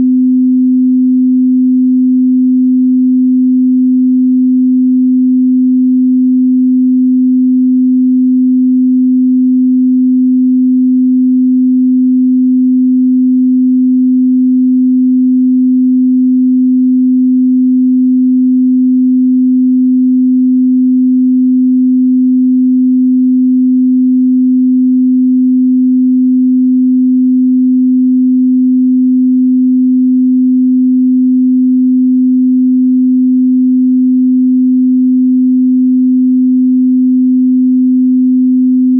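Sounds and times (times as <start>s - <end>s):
low sine wave test tone: 0.0s - 38.9s.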